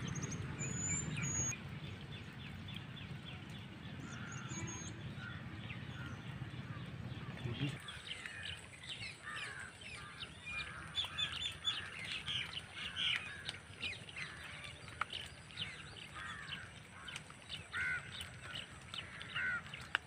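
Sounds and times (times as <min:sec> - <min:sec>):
low steady rumble: 0:00.0 - 0:19.8
birds chirping and calling: 0:00.0 - 0:20.0.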